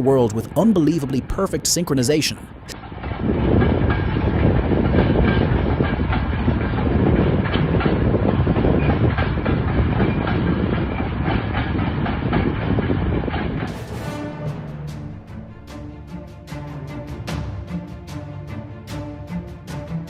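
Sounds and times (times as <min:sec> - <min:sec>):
train wheels rumbling on rails: 0:00.0 - 0:20.0
rapid clattering knocks: 0:02.8 - 0:20.0.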